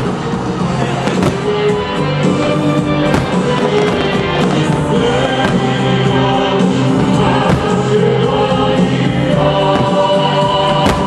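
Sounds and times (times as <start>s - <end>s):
fireworks bursting: 0.0s - 11.0s
loud music with held notes: 0.0s - 11.0s.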